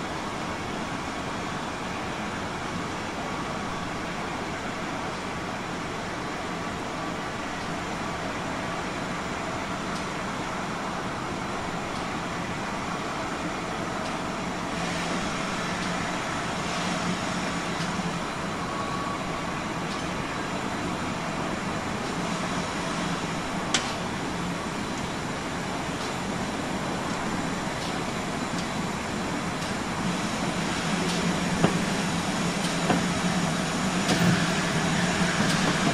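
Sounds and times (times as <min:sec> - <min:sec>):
steam locomotive rumble and hiss: 0:00.0 - 0:35.9.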